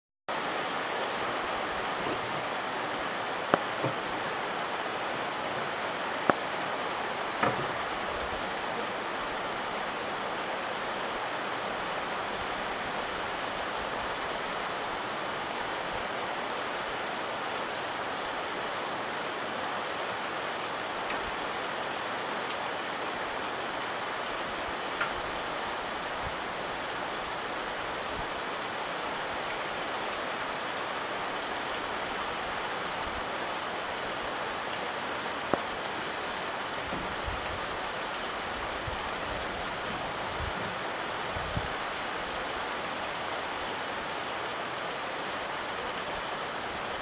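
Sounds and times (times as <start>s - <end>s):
steady rain hissing: 0.3s - 47.0s.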